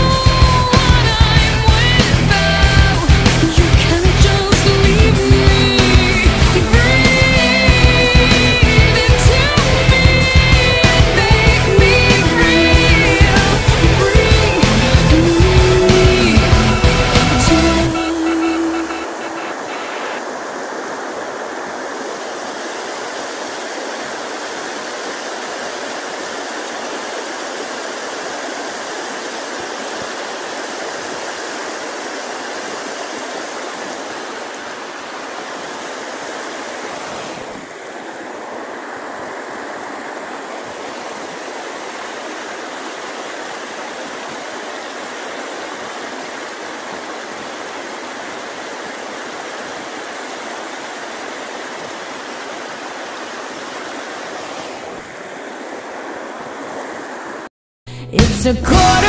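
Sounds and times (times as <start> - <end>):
stream rushing over rocks: 0.0 - 57.5.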